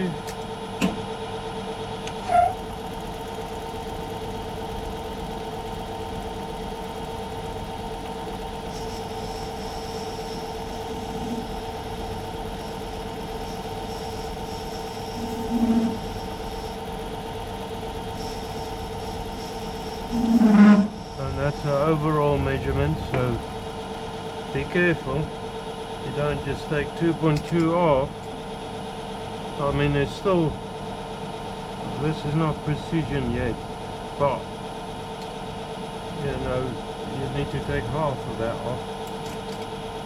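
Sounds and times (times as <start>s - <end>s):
metal lathe motor hum: 0.0s - 40.0s.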